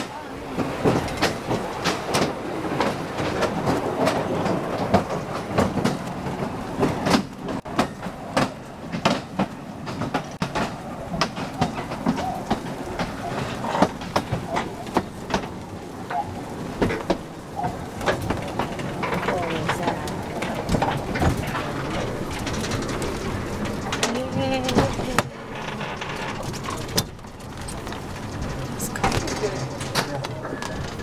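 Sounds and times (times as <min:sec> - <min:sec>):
rail car rumbling: 0:00.0 - 0:31.0
wheels clacking on rails: 0:00.0 - 0:31.0.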